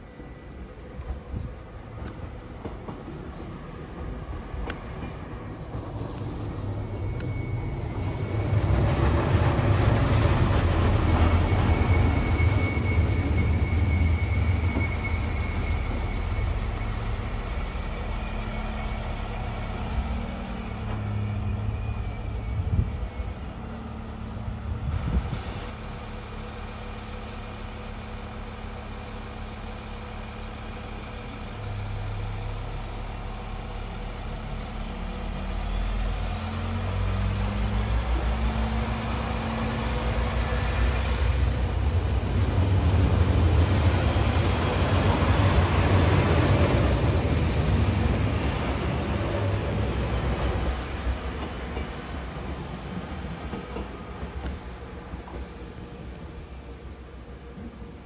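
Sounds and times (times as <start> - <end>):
diesel train engines running: 0.0 - 58.0.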